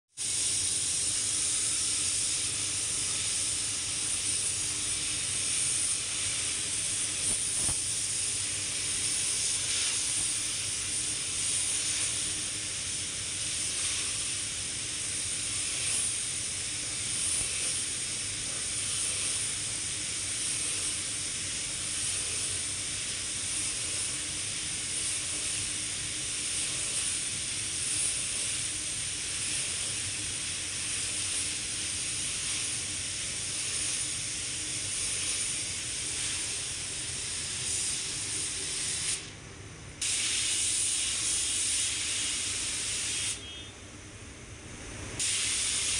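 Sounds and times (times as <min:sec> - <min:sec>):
paint spray gun hissing: 0:00.2 - 0:39.3, 0:40.0 - 0:43.6, 0:45.2 - 0:45.9.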